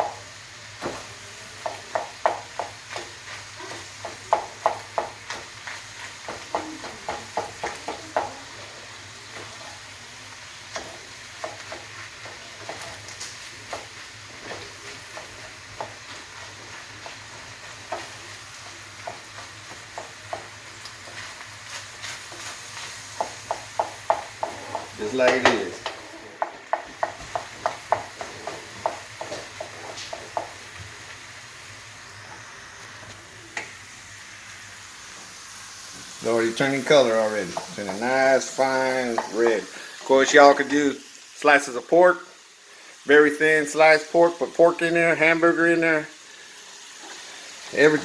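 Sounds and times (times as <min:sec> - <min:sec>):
utensil scraping frying pan: 0:00.0 - 0:31.2, 0:32.2 - 0:40.8
meat sizzling: 0:00.0 - 0:48.0.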